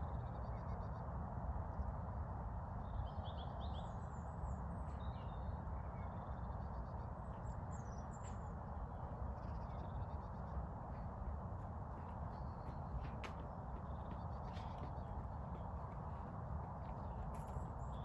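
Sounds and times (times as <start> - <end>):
songbirds chirping: 3.0 - 18.0.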